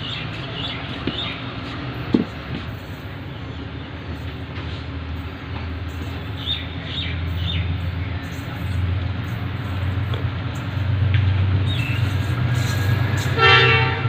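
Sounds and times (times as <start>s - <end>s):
locomotive rumble: 0.0s - 14.0s.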